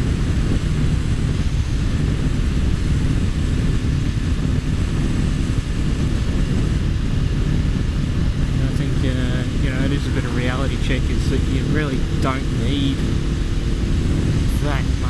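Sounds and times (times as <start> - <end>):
motorcycle engine running: 0.0 - 15.0
wind rush on microphone: 0.0 - 15.0.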